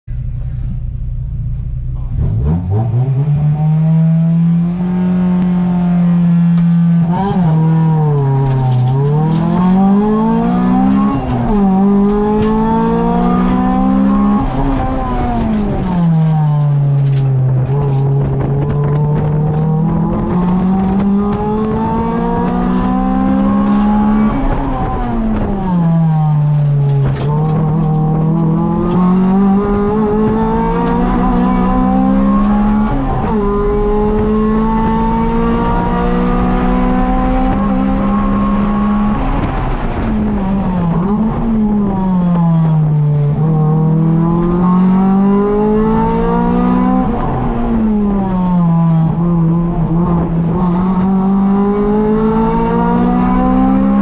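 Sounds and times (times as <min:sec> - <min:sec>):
car engine revving: 0:00.1 - 0:54.0.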